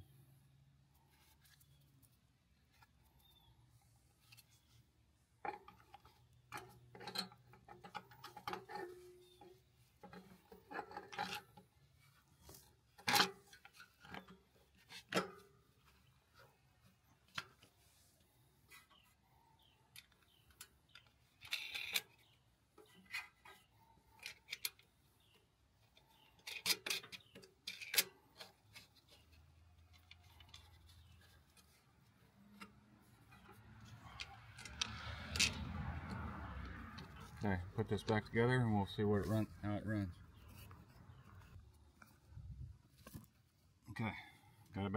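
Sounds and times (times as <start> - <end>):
engine parts and tools clicking: 5.4 - 17.8, 18.7 - 43.5.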